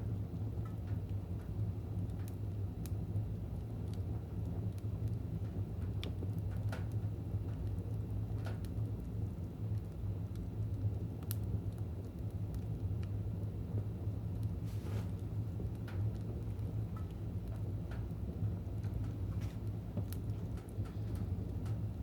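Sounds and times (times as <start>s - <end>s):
fire burning in a fireplace: 0.0s - 22.0s.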